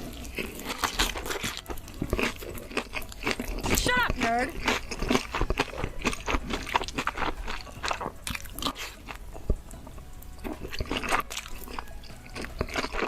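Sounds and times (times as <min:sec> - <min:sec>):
person chewing and crunching food: 0:00.0 - 0:13.0.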